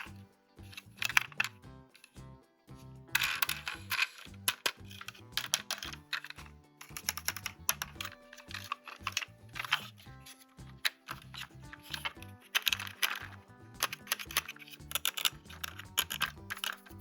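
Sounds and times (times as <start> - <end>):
plastic toy parts clicking: 0.0 - 2.2, 3.1 - 17.0
background music low held notes: 0.0 - 17.0.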